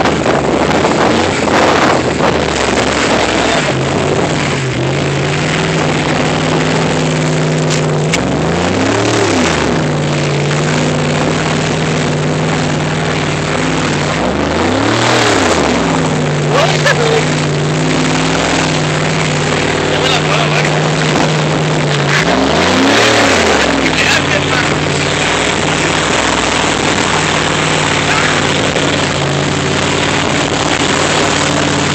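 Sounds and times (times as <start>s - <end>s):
loud rushing noise: 0.0s - 31.9s
vehicle engine revving: 0.0s - 31.9s.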